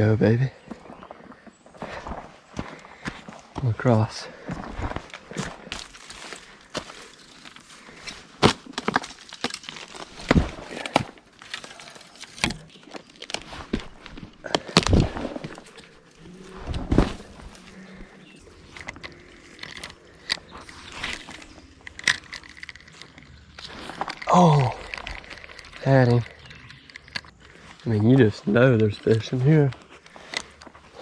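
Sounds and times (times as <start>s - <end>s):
crackles and knocks: 4.6s - 31.0s.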